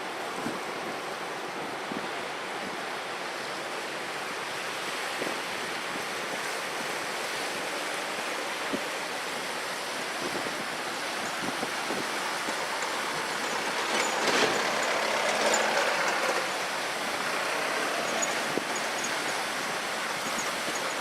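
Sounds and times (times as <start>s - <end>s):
rushing water: 0.0s - 21.0s
wind: 0.0s - 21.0s.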